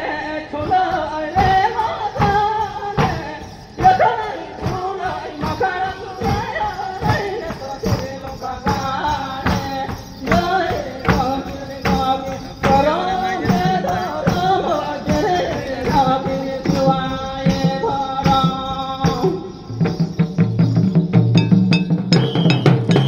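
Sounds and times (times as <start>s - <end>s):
voices singing: 0.0s - 20.2s
hand drums beating: 1.4s - 23.0s.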